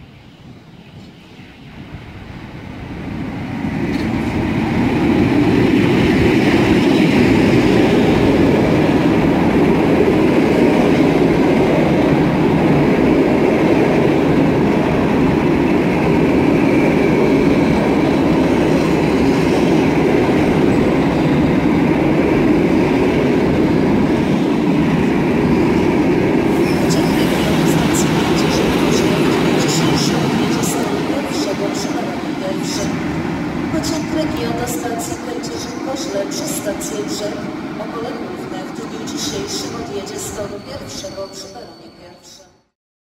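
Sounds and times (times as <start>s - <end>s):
train wheels rumbling on rails: 3.0s - 42.0s.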